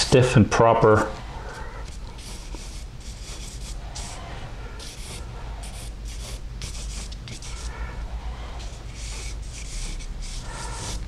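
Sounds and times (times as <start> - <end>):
low steady hum: 0.0 - 11.0
charcoal scratching on paper: 1.2 - 11.0.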